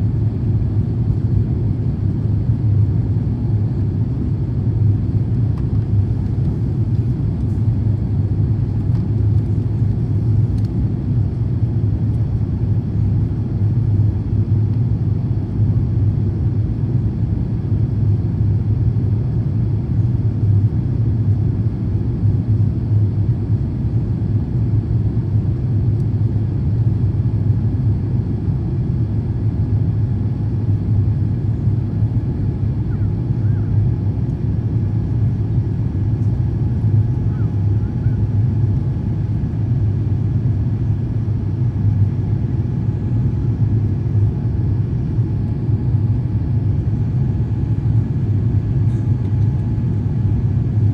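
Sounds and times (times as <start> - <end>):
airplane cabin rumble: 0.0 - 50.9.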